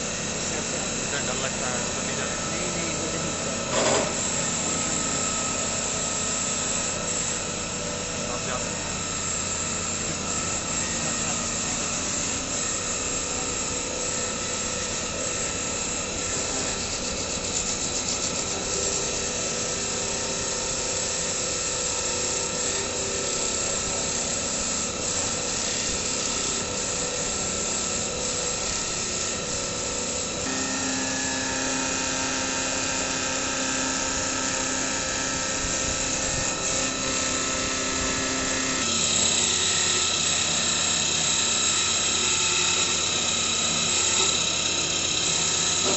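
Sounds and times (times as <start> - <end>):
lathe mechanical whine: 0.0 - 45.9
metal cutting noise: 0.0 - 45.9.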